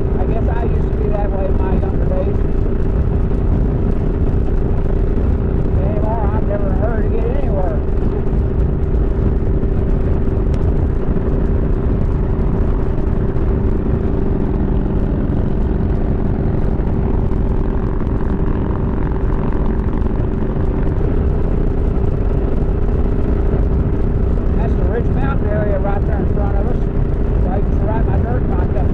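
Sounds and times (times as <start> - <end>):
motorcycle engine drone: 0.0 - 28.9
wind on microphone: 0.0 - 28.9.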